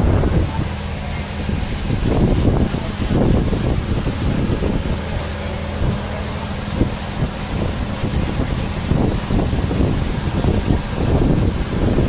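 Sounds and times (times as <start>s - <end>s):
boat engine humming: 0.0s - 12.0s
wind buffeting microphone: 0.0s - 12.0s.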